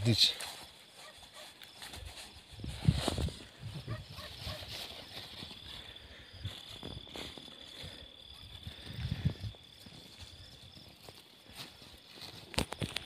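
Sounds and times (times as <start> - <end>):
high-pitched insect trill: 0.0 - 13.0
rustling of soil and cloth: 0.0 - 13.0.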